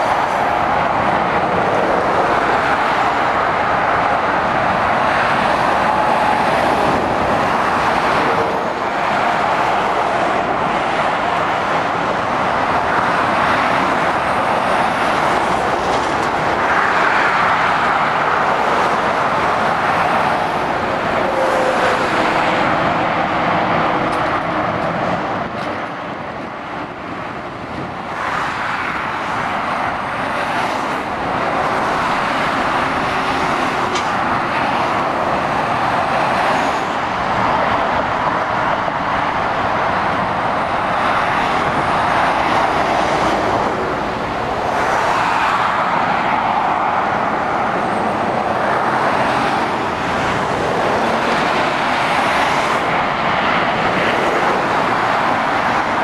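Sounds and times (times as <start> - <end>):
diesel lorry engines: 0.0 - 56.0
tyre noise on the road: 0.0 - 56.0.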